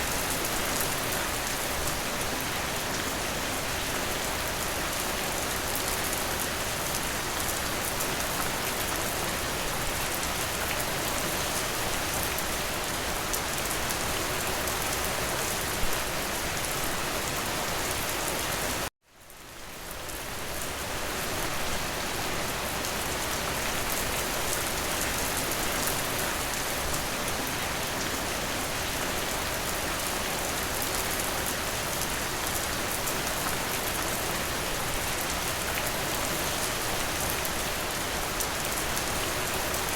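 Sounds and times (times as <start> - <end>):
dense rain: 0.0 - 39.9.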